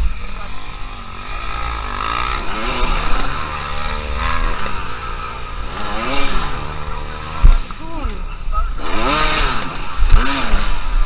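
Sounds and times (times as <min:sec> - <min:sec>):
dirt bike engine revving: 0:00.0 - 0:11.0
other dirt bike engines: 0:00.0 - 0:11.0.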